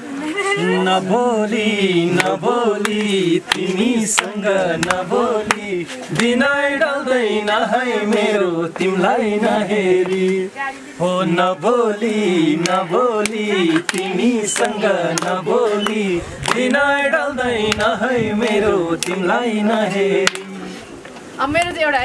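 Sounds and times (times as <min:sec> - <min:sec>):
man singing wordless melody: 0:00.4 - 0:20.9.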